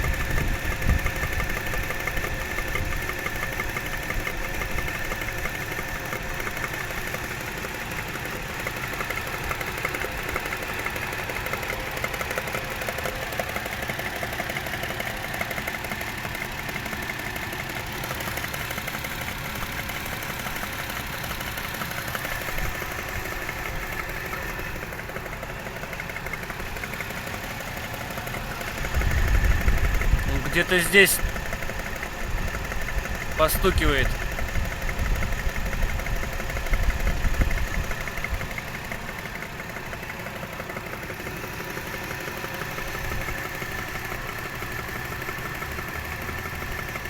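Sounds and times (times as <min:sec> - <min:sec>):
engine idling with tapping knock: 0:00.0 - 0:47.0.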